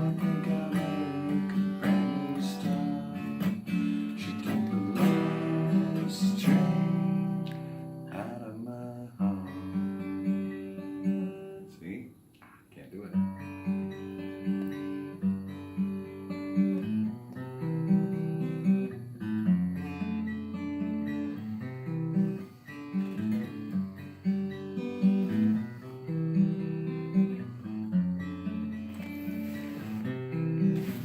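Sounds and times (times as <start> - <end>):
acoustic guitar strumming and picking: 0.0 - 31.0.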